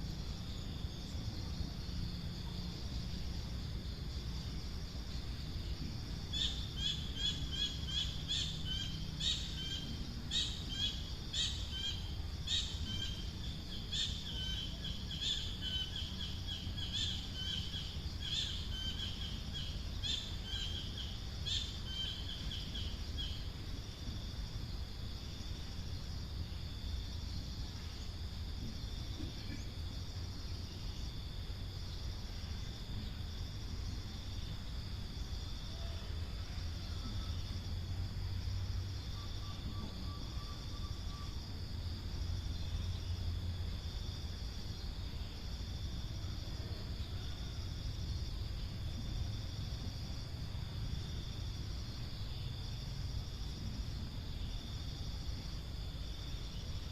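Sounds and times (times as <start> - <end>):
high insect drone: 0.0 - 56.9.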